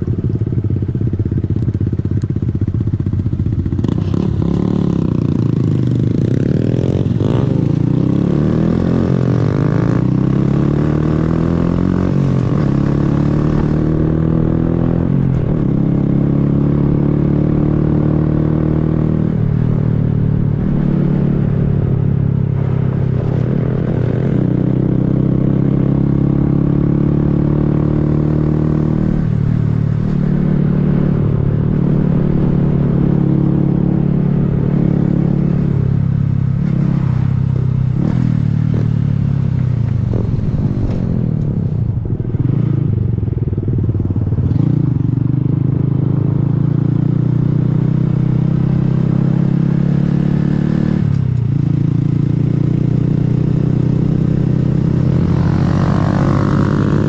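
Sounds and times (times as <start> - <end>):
motorcycle engine shifting gears: 0.6 - 57.0.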